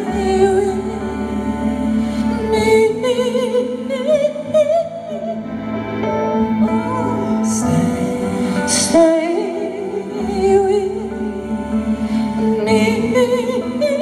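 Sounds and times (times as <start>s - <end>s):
keyboard chords: 0.0s - 14.0s
woman singing with vibrato: 0.0s - 14.0s.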